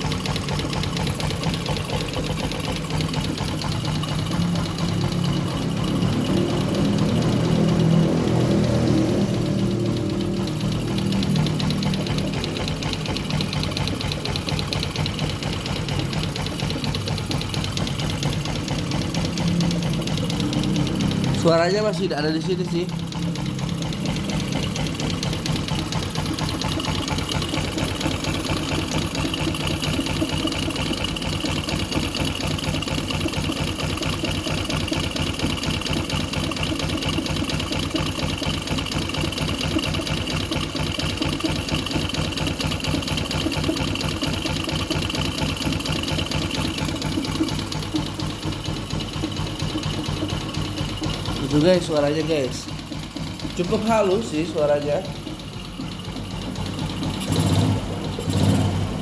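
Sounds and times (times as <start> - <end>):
motorcycle engine idling: 0.0 - 59.0
rapid ticking clatter: 0.0 - 59.0.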